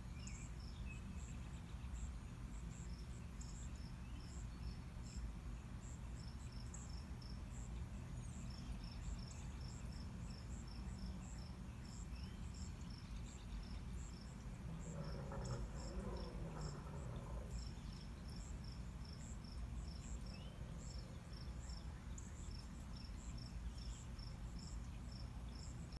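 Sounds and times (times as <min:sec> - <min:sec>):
crickets chirping: 0:00.1 - 0:26.0
low steady rumble: 0:00.6 - 0:26.0.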